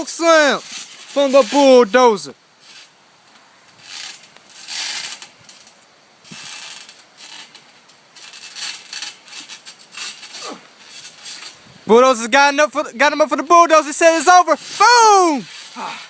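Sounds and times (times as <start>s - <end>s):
trampoline springs creaking: 0.0s - 16.0s.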